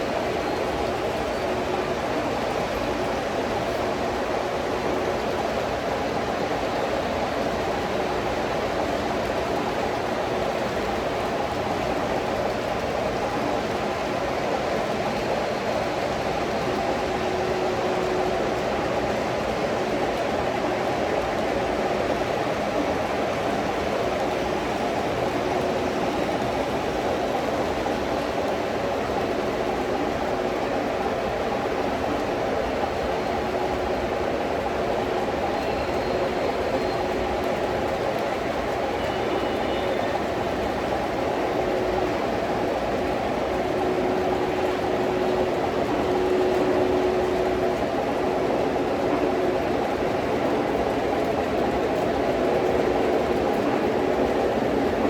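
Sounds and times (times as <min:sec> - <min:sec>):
model trains rumbling: 0:00.0 - 0:55.0.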